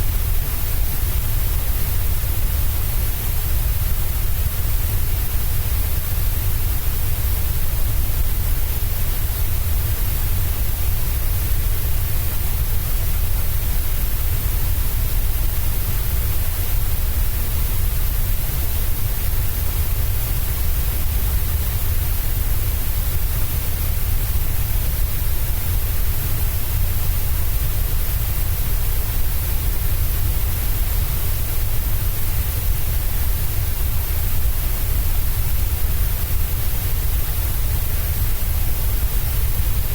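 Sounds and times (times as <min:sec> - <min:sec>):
white noise with deep rumble: 0:00.0 - 0:39.9.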